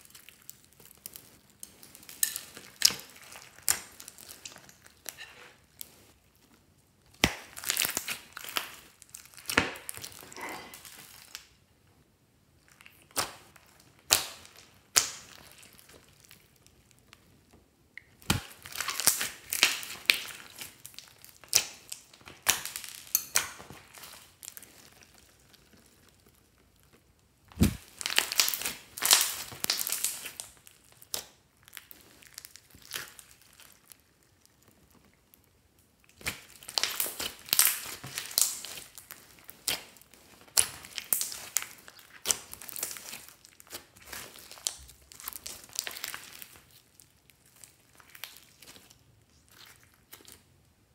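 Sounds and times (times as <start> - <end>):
slime squeezed sticky crackling: 0.0 - 11.5, 18.0 - 50.5.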